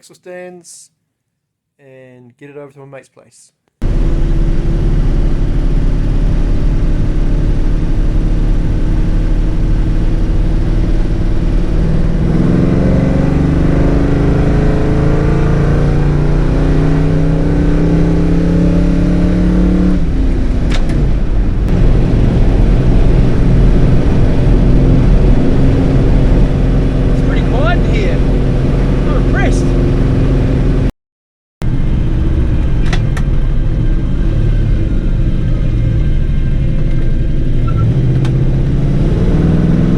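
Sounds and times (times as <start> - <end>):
engine rumbling: 3.8 - 30.9, 31.6 - 39.9.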